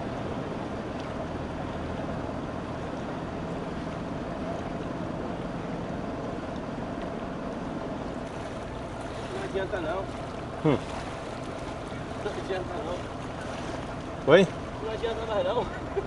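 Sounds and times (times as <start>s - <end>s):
engine rumble: 0.0s - 16.0s
floodwater washing: 0.0s - 16.0s.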